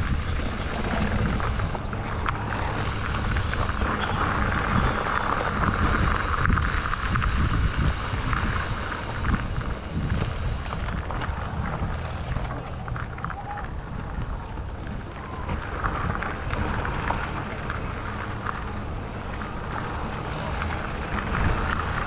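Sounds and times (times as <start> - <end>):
rolling rumble of e-bike: 0.0 - 22.0
wind buffeting microphone: 0.0 - 22.0.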